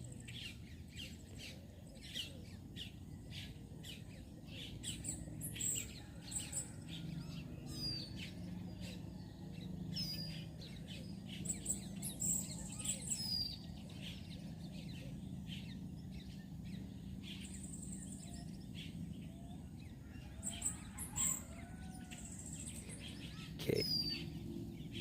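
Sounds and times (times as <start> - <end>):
birds chirping: 0.0 - 25.0
low outdoor hum: 0.0 - 25.0.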